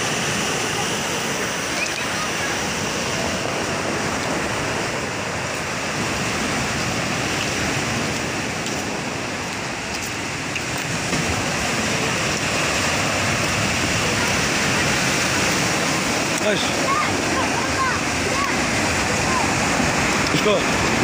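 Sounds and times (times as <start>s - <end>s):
waves breaking over rocks: 0.0s - 21.0s
waves washing up pebble shore: 0.0s - 21.0s.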